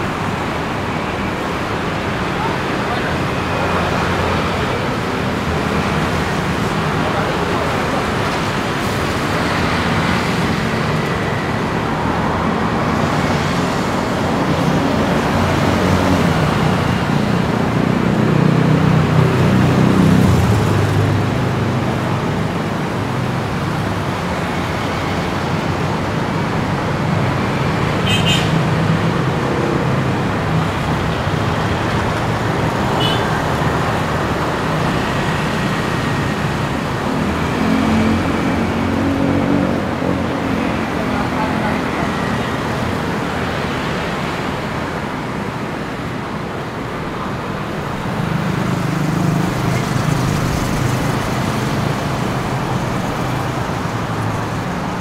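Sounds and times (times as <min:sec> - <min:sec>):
city road traffic: 0:00.0 - 0:55.0.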